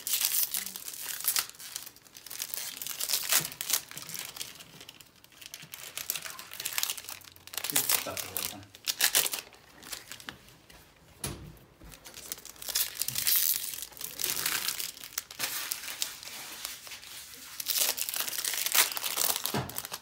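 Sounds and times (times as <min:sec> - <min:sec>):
card pack wrappers tearing and crinkling: 0:00.0 - 0:10.5, 0:11.9 - 0:20.0.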